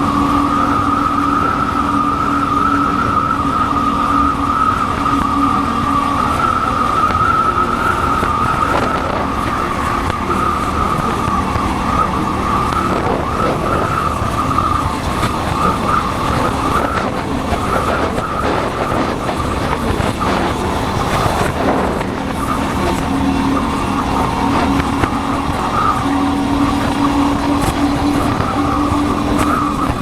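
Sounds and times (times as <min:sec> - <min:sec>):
high whistle-like tone: 0:00.0 - 0:30.0
motorcycle engine running: 0:00.0 - 0:30.0
wind rushing: 0:00.0 - 0:30.0.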